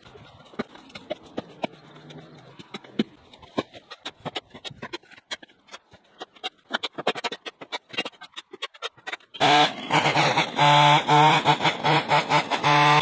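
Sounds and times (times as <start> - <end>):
garden rake scraping: 0.0 - 13.0.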